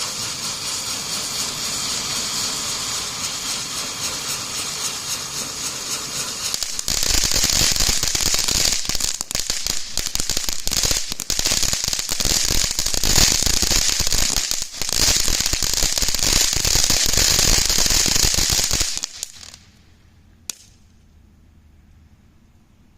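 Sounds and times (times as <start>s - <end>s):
firework crackling hiss: 0.0s - 19.8s.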